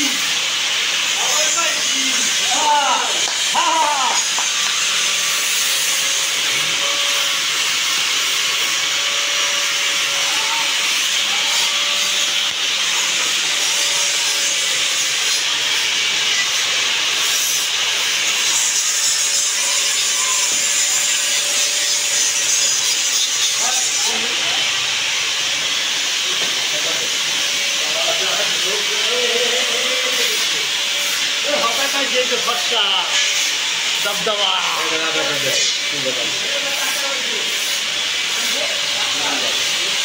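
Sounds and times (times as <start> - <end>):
machinery hiss: 0.0 - 40.0.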